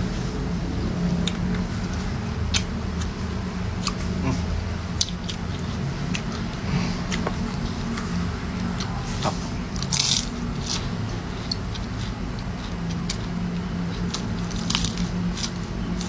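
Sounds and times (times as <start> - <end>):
food crunching while chewed: 0.0 - 16.0.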